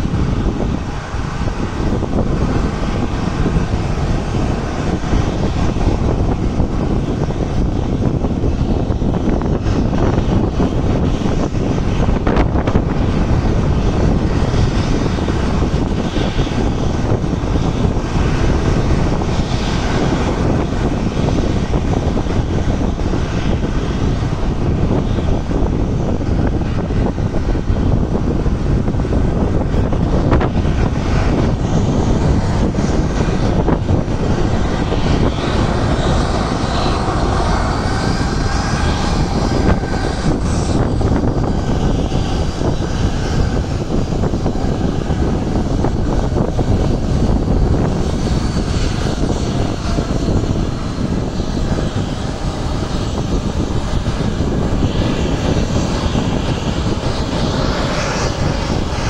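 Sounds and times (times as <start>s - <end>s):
jet engines running loudly: 0.0s - 59.0s.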